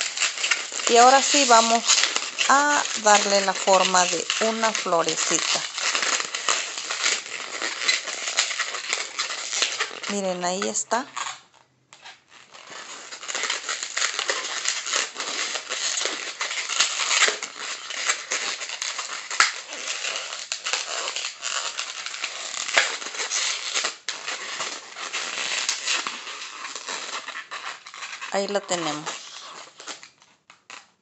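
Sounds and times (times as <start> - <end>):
balloons crackling as twisted: 0.0 - 31.0.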